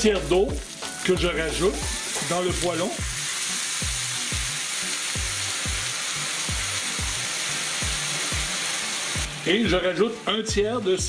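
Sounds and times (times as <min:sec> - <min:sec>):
fish sizzling in frying pan: 0:00.0 - 0:09.8
background music with drum beat: 0:00.0 - 0:11.0.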